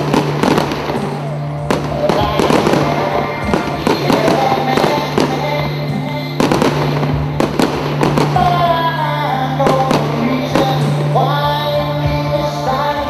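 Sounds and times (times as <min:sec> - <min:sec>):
fireworks bursting: 0:00.0 - 0:11.9
music soundtrack: 0:00.0 - 0:13.0.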